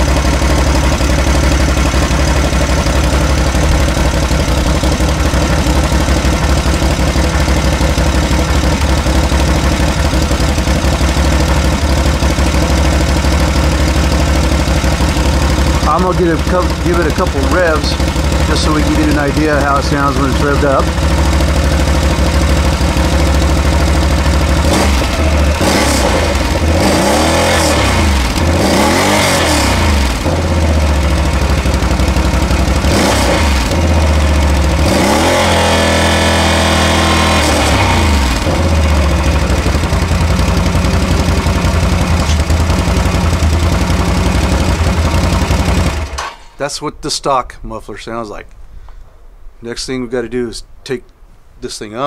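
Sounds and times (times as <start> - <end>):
atv engine idling and revving: 0.0 - 46.4.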